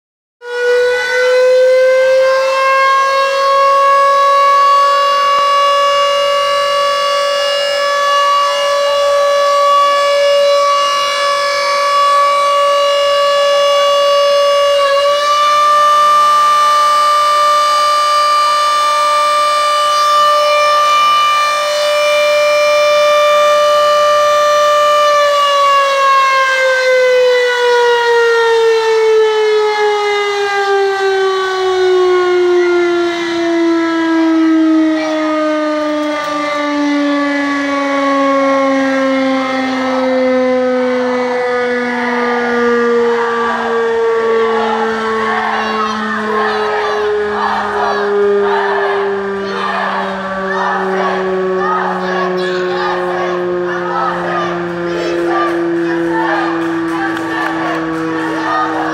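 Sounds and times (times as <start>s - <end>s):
fire siren winding down: 0.4s - 58.9s.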